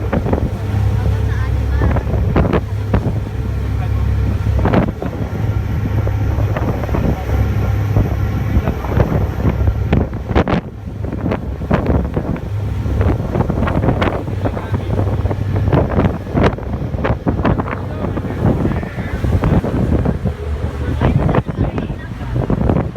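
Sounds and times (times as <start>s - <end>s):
low rumble of boat: 0.0s - 22.9s
wind buffeting microphone: 0.0s - 22.9s.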